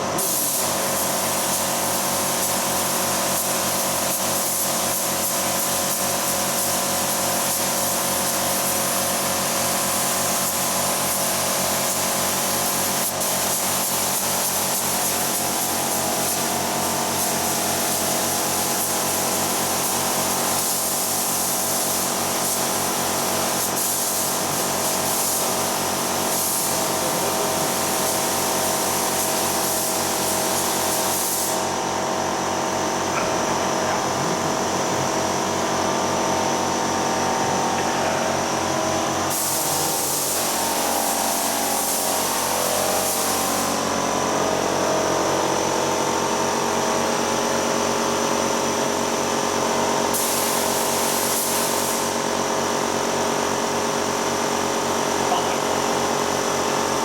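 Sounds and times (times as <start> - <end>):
spray gun hissing: 0.0 - 47.7, 50.0 - 52.6.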